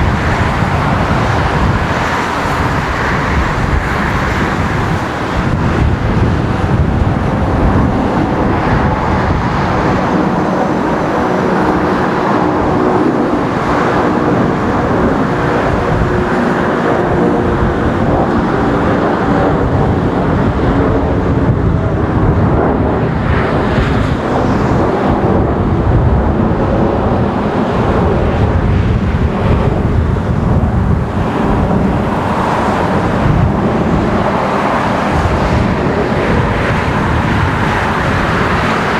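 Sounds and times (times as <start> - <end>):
loud jet engine noise: 0.0 - 38.9.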